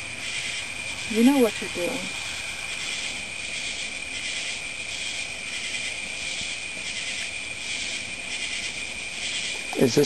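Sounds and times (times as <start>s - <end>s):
night insects trilling: 0.0s - 10.0s
pulsing high hiss: 0.0s - 10.0s.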